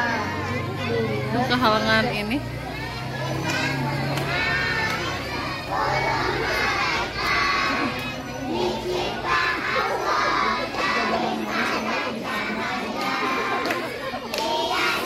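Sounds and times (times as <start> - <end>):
children shouting and chattering: 0.0 - 15.0.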